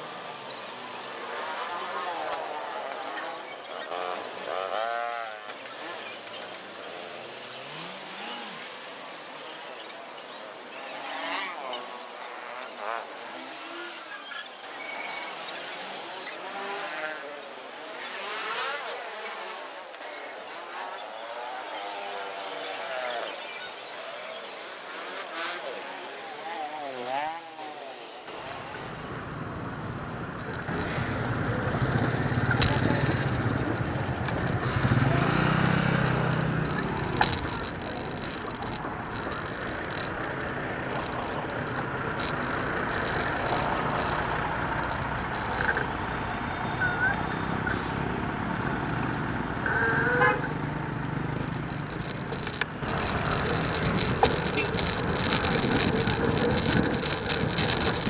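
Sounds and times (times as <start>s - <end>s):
traffic passing: 0.0s - 58.0s.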